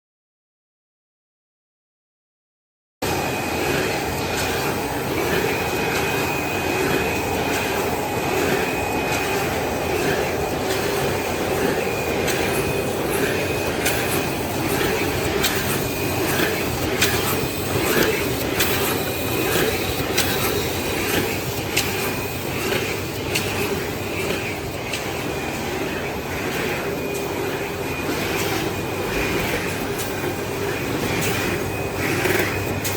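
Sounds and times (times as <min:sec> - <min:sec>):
machine running with whine: 0:03.0 - 0:32.9
machine clicks and knocks: 0:03.6 - 0:32.9.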